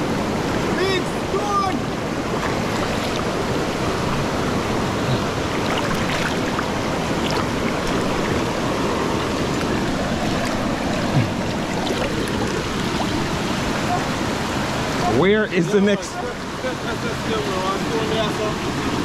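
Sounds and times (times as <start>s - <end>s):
river rushing over stones: 0.0s - 19.0s.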